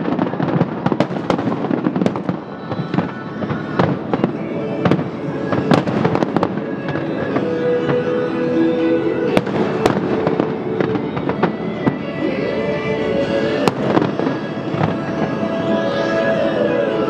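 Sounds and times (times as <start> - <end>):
fireworks bangs: 0.0 - 12.4, 13.3 - 17.0
music with held notes: 3.3 - 17.0.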